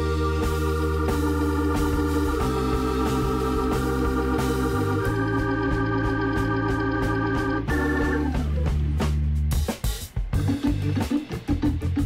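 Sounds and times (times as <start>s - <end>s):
organ-like chords over a beat: 0.0s - 12.0s.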